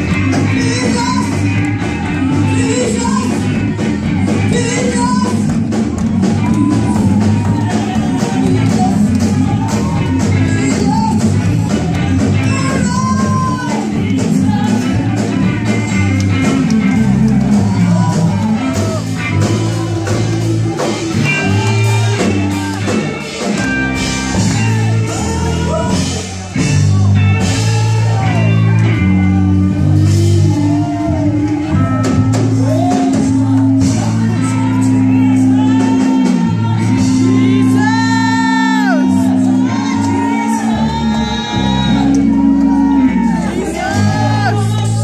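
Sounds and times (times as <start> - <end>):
bass line: 0.0 - 45.0
drum kit: 0.0 - 45.0
electric guitar: 0.0 - 45.0
people singing and shouting: 0.0 - 45.0.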